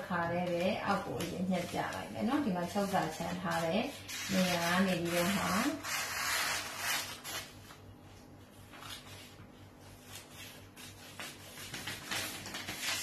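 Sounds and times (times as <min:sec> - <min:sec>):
paper rustling under a hand: 0:00.4 - 0:13.0.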